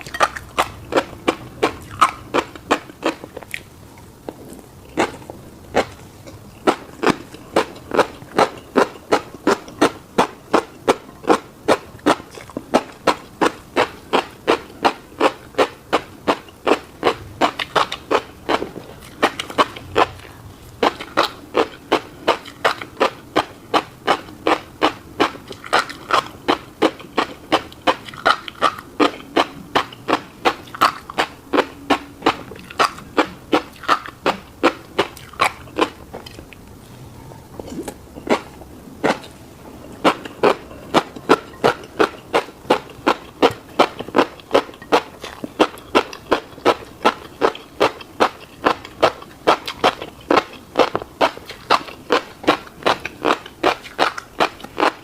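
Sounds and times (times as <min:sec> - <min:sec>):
mouth chewing with wet smacks: 0:00.0 - 0:36.8, 0:37.4 - 0:55.0.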